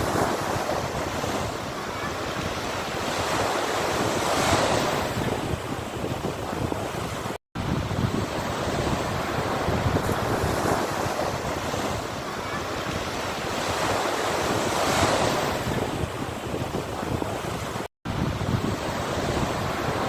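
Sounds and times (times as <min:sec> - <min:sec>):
sea waves breaking: 0:00.0 - 0:20.0
wind rumbling on microphone: 0:00.0 - 0:20.0.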